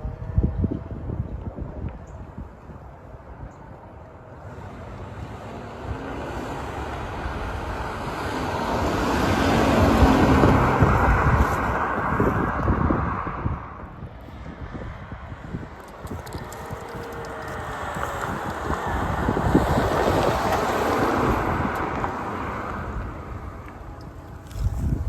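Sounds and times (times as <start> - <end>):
wind on microphone: 0.0 - 4.0, 5.2 - 25.0.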